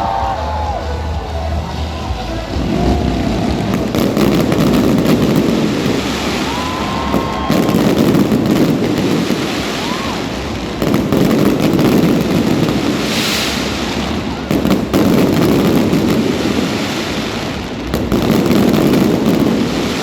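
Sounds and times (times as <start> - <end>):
fireworks booming: 0.0 - 20.0
low rumble and crackling: 0.0 - 20.0.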